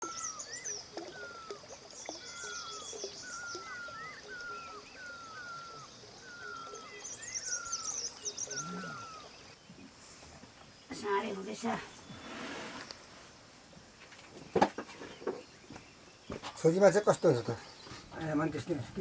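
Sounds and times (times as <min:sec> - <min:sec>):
birds twittering: 0:00.0 - 0:19.0.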